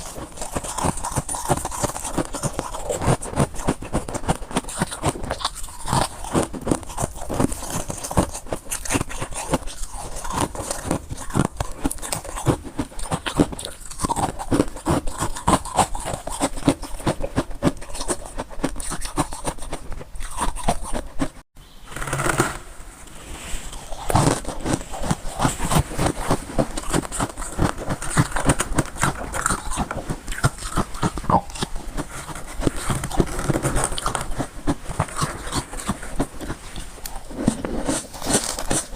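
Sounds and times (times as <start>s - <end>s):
chewing crunchy frost: 0.0s - 21.5s, 23.6s - 38.9s.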